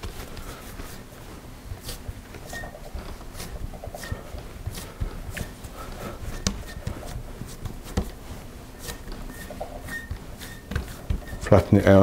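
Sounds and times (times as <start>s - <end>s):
hands patting pastry dough: 0.0s - 12.0s.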